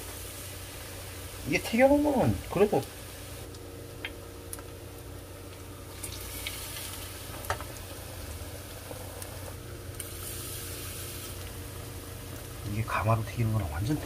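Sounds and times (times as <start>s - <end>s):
fish sizzling in deep fryer oil: 0.0s - 14.0s.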